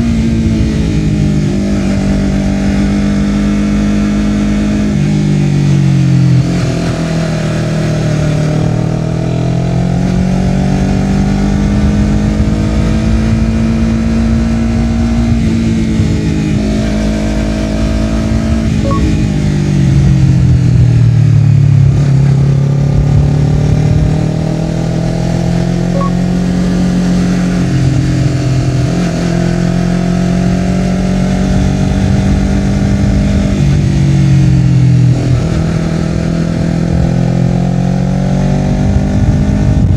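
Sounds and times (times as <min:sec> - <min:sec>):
motorcycle engine revving: 0:00.0 - 0:39.9
wind and road rumble: 0:00.0 - 0:39.9.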